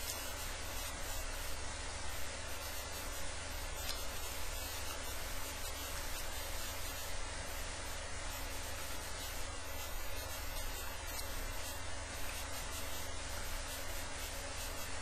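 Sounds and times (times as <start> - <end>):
low electrical hum: 0.0 - 15.0
microphone hiss: 0.0 - 15.0.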